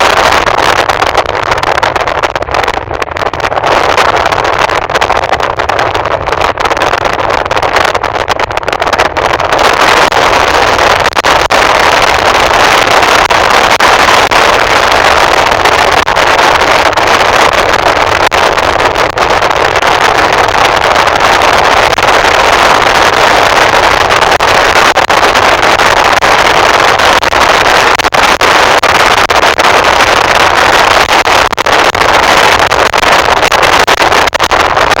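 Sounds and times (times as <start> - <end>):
road noise from moving vehicle: 0.0 - 35.0
wind rushing: 0.0 - 35.0.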